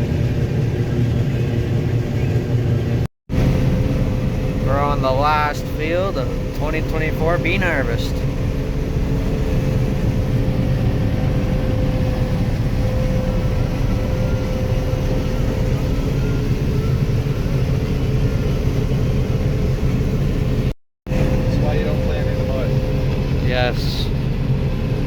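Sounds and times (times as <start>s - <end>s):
thin steady whine: 0.0s - 24.8s
diesel engine rumble from cab: 0.0s - 25.0s.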